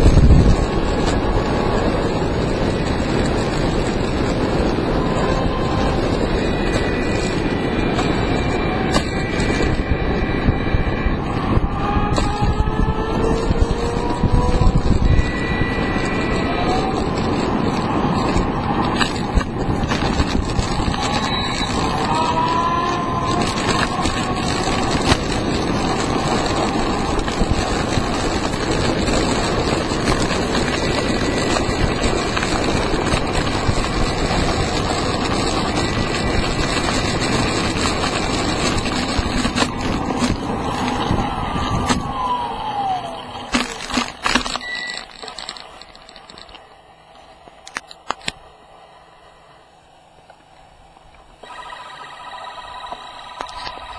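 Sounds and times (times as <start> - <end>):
electric motor whine: 0.0 - 53.9
wheels rolling on asphalt: 0.0 - 53.9.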